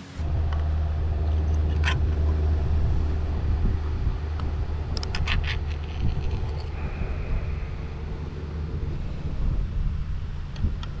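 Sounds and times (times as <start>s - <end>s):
loud low rumble: 0.0s - 11.0s.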